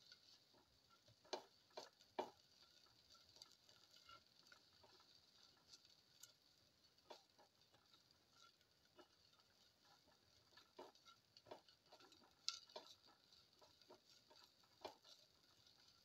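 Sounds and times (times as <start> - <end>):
soft stirring in a pot: 0.0 - 16.0.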